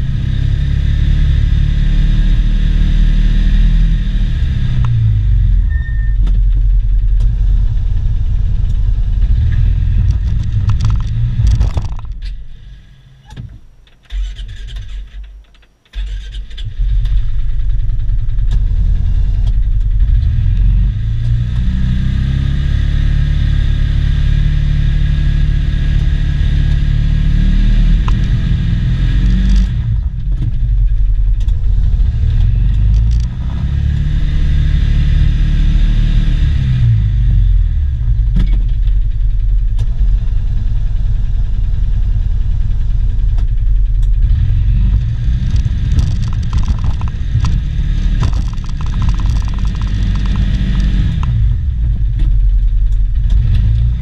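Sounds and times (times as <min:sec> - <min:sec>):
utility vehicle engine under load: 0:00.0 - 0:54.0.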